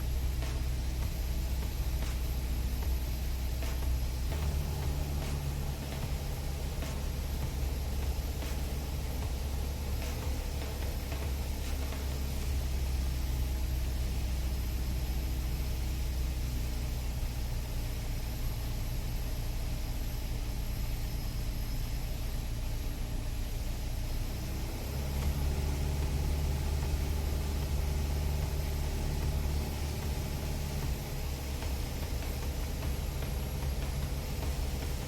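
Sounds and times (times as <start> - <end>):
airplane engine and propeller droning: 0.0 - 35.0.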